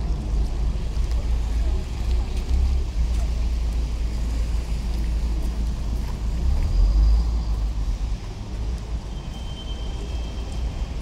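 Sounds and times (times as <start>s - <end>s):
cars passing on wet street: 0.0s - 11.0s
heavy low traffic rumble: 0.0s - 11.0s.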